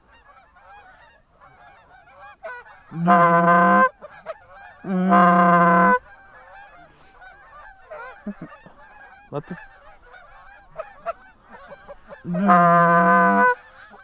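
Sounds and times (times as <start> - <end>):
flock of geese honking: 0.0 - 14.0
loud goose calls: 0.1 - 14.0.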